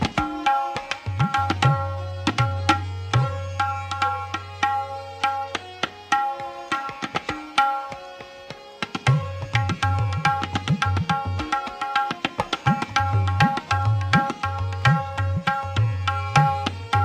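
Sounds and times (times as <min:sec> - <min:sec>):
tabla treble drum strokes: 0:00.0 - 0:17.0.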